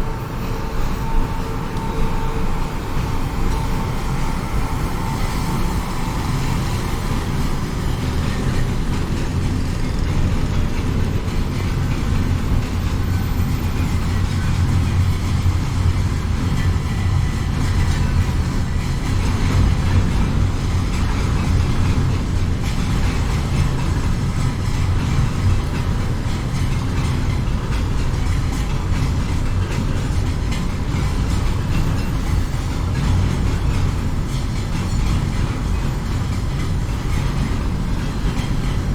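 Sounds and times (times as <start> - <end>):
train rumble: 0.0 - 38.9.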